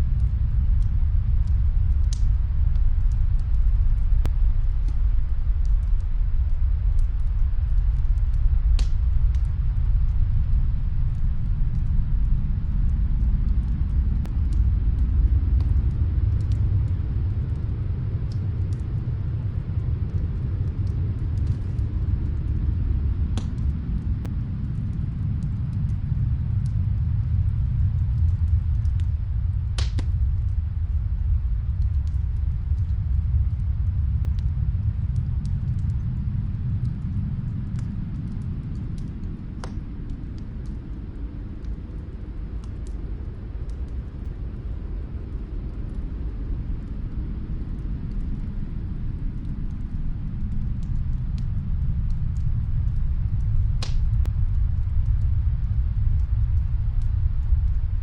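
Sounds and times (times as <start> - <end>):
faint wood fire crackles: 0.0 - 58.0
snowstorm wind rumbling: 0.0 - 58.0.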